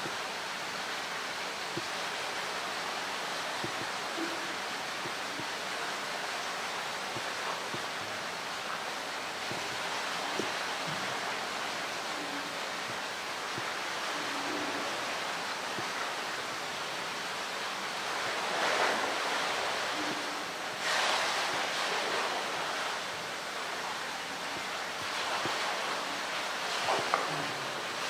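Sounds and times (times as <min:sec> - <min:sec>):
running water rushing: 0:00.0 - 0:28.0.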